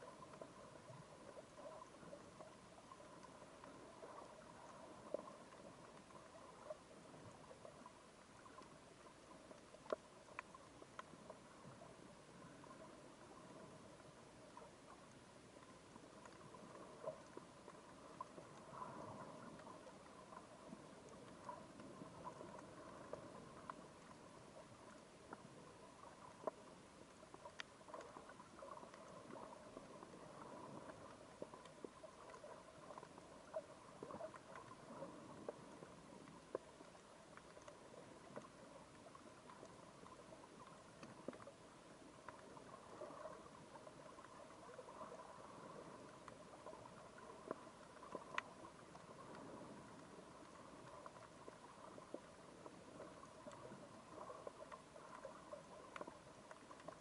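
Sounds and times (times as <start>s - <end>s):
faint steady hum: 0.0s - 57.0s
low hiss: 0.0s - 57.0s
underwater clicks and crackles: 0.0s - 57.0s.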